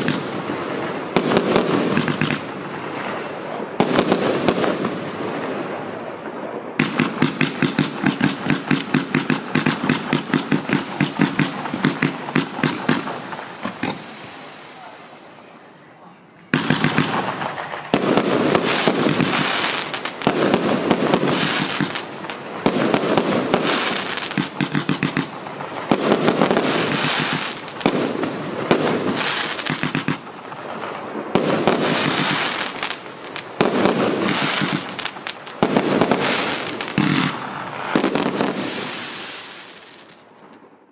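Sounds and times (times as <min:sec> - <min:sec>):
fireworks barrage: 0:00.0 - 0:40.9.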